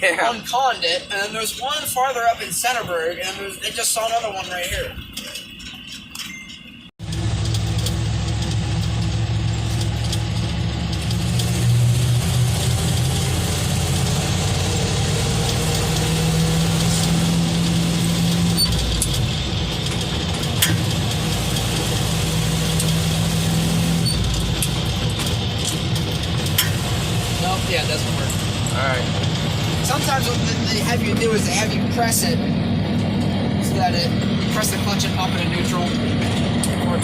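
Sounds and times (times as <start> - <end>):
truck engine running: 7.0 - 37.0.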